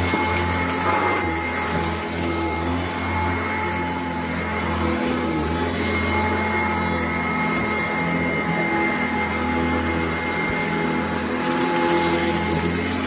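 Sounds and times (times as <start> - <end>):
grit crackling in vacuum: 0.0 - 13.0
upright vacuum running: 0.0 - 13.0.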